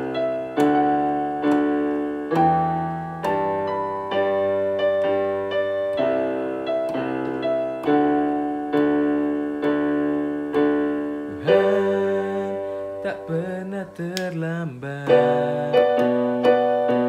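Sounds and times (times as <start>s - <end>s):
electronic keyboard piano chords: 0.0s - 17.0s.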